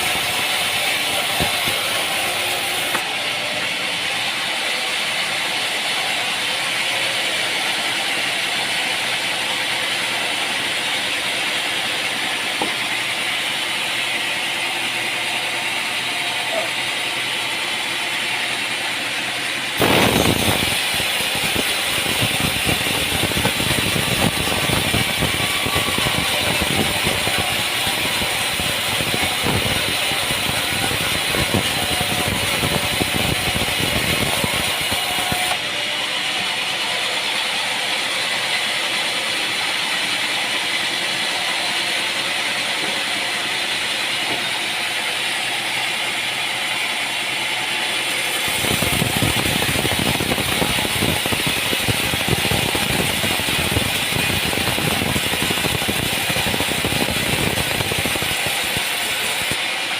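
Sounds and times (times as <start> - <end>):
sawmill machinery rattling: 0.0 - 59.9.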